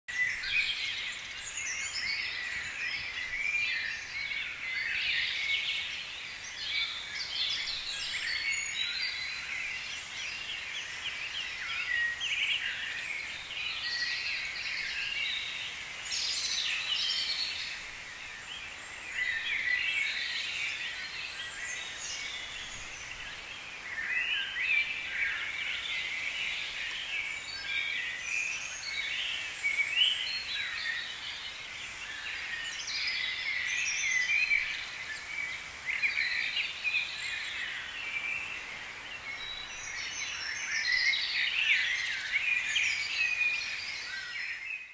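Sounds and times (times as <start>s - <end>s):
small birds chirping and twittering: 0.0s - 44.9s.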